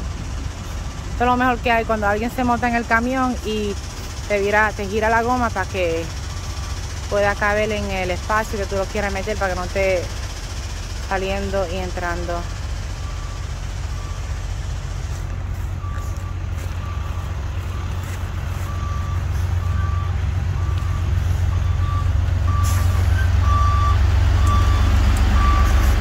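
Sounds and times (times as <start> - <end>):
diesel truck engine rumble: 0.0 - 26.0
truck backup alarm beeping: 0.0 - 26.0.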